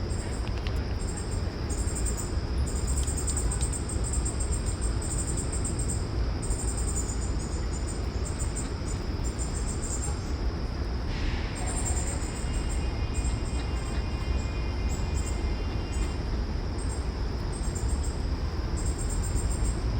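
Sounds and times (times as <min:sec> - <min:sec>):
insects chirping: 0:00.0 - 0:19.9.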